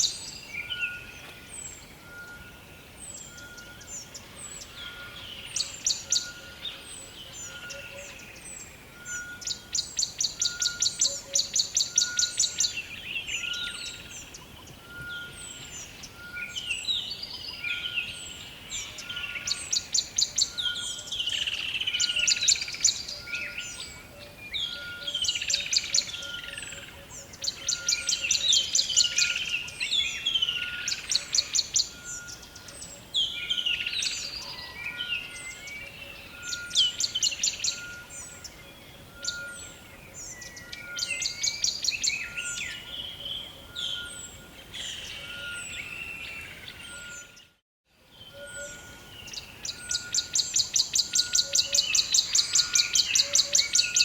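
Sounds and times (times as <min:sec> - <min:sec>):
birds calling and trilling: 0:00.0 - 0:54.0.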